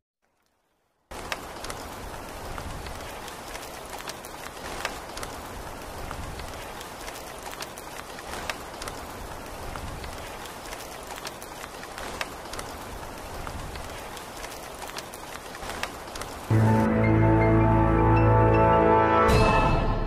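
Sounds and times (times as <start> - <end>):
sharp raindrop taps: 0.2 - 16.9
steady rain falling: 0.2 - 19.9.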